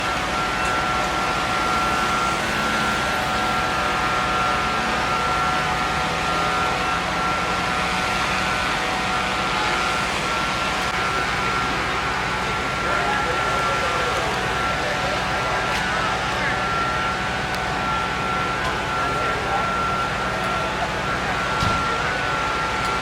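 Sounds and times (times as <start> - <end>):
high whine: 0.0 - 23.0
truck engine idling: 0.0 - 23.0.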